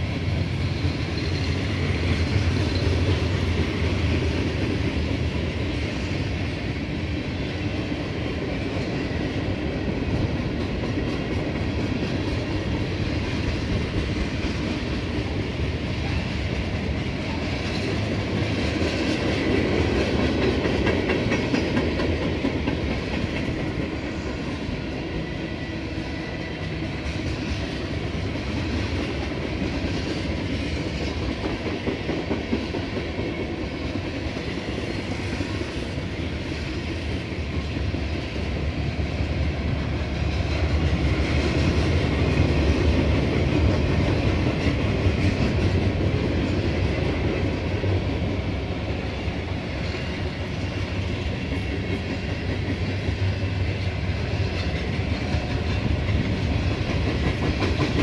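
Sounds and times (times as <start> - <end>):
wheels clacking on rails: 0.0 - 58.0.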